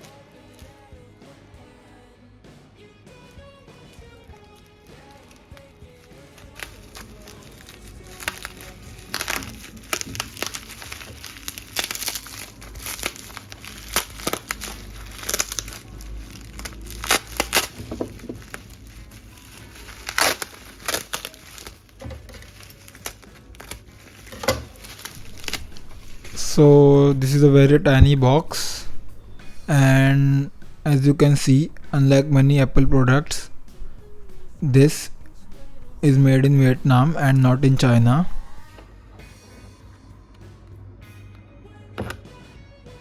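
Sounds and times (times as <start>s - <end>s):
packaging crinkling and rustling: 4.3s - 38.8s.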